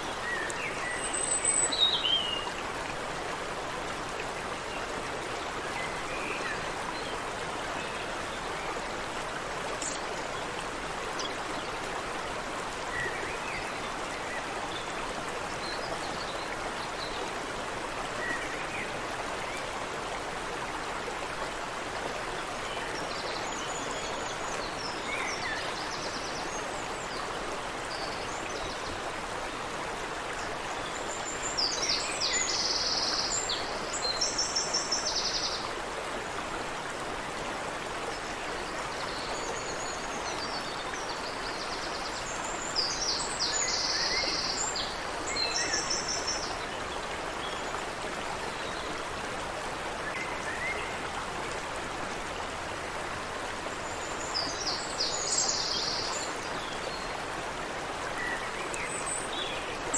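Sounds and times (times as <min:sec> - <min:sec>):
water running in a brook: 0:00.0 - 0:59.9.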